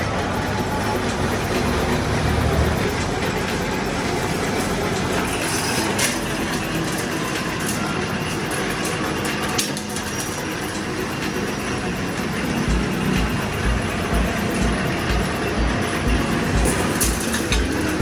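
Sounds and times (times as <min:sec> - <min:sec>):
sharp machine clicks: 0:00.0 - 0:18.0
spring making machine running: 0:00.0 - 0:18.0.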